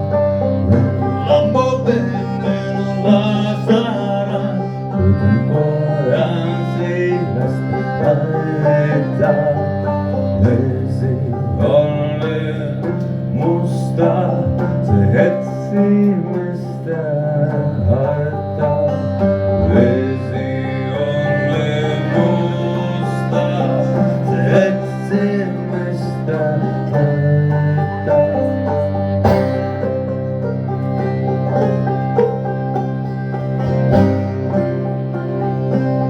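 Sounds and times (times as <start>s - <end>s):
plucked string instruments: 0.0s - 36.0s
sustained low tone: 0.0s - 36.0s.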